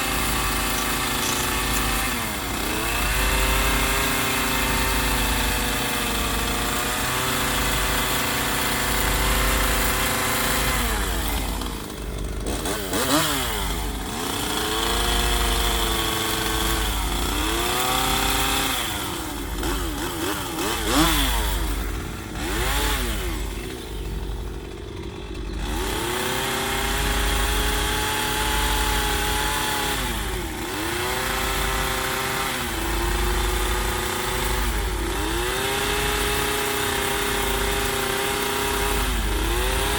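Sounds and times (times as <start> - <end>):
chainsaw carving wood: 0.0 - 39.9.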